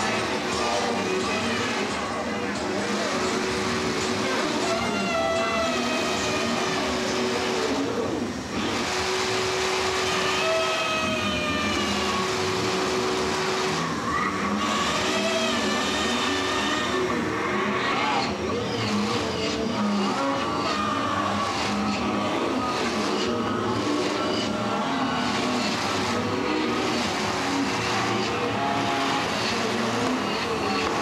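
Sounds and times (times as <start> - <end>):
low drone: 0.0 - 31.0
squealing sliding tones: 0.0 - 31.0.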